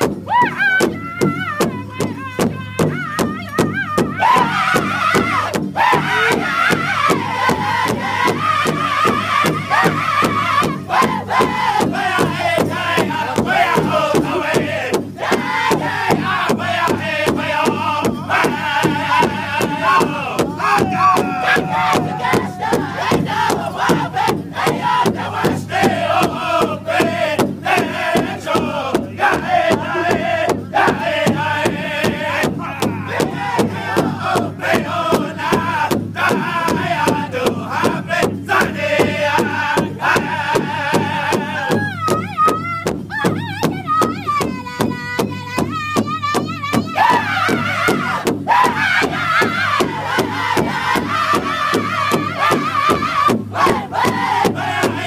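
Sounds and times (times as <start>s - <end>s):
large drum beating: 0.0s - 55.0s
men singing in high voices: 0.0s - 55.0s.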